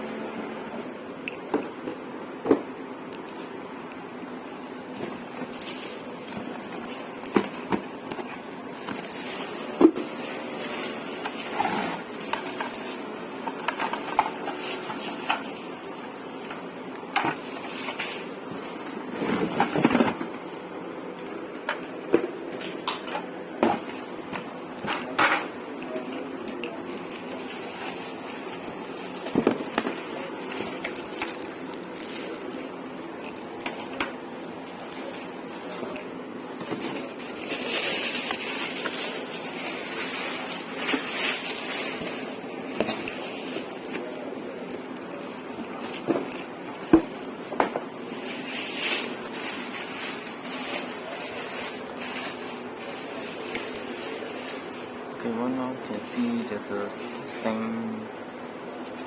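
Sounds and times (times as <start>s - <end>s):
packaging rustling: 0.8s - 57.6s.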